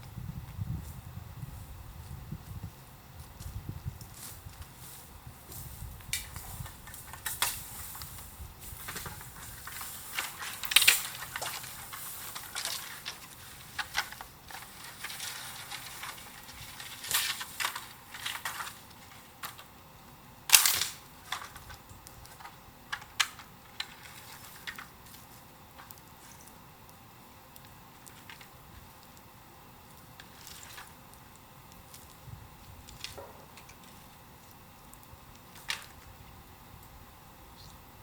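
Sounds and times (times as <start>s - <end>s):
bonfire crackling and popping: 2.0s - 38.0s.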